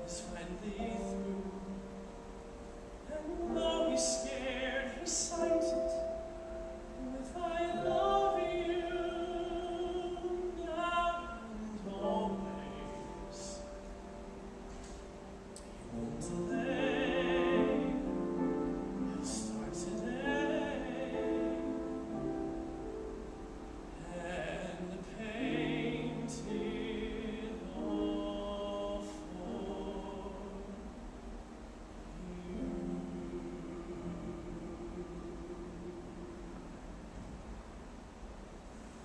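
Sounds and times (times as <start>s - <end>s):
person singing with vibrato: 0.0s - 14.2s, 15.6s - 37.2s.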